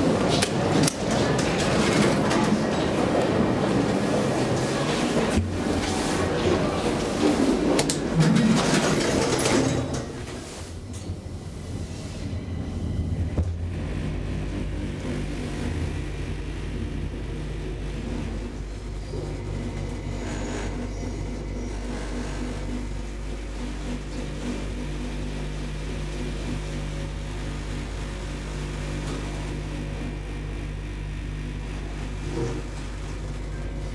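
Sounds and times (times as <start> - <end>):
elevator hum and rumble: 0.0 - 33.9.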